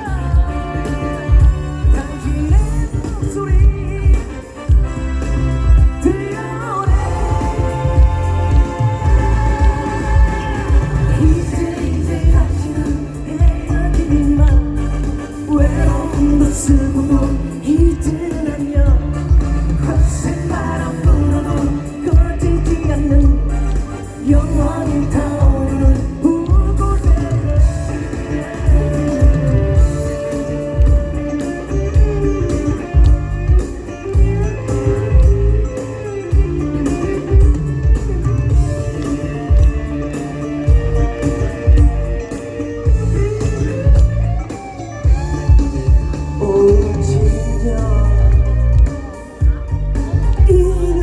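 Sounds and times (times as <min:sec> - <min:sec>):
man singing: 0:00.0 - 0:44.1, 0:45.0 - 0:51.0
bass: 0:00.0 - 0:51.0
guitar: 0:00.0 - 0:51.0
live band playing pop music: 0:00.0 - 0:51.0
steady drum beat: 0:00.0 - 0:51.0.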